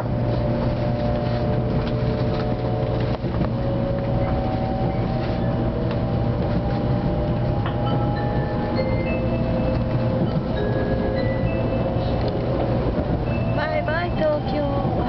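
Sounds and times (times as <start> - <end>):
train rumble with rising whine: 0.0 - 15.0.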